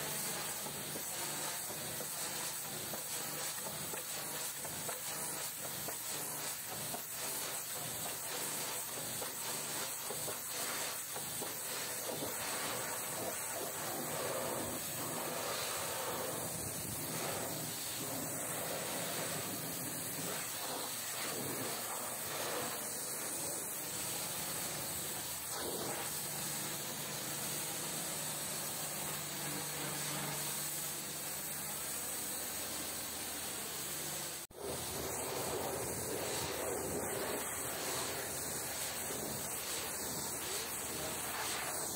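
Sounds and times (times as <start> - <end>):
high-pressure water jet spraying: 0.0 - 41.9.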